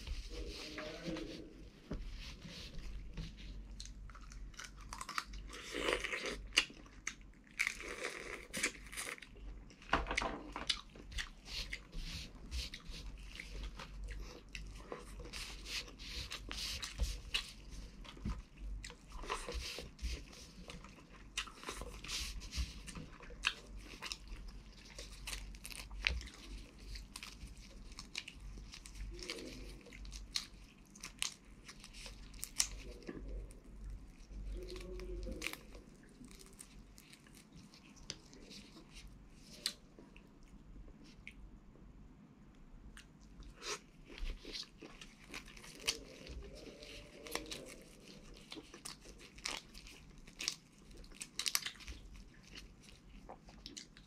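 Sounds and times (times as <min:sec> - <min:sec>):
chewing and crunching: 0:00.0 - 0:41.5, 0:42.9 - 0:54.0.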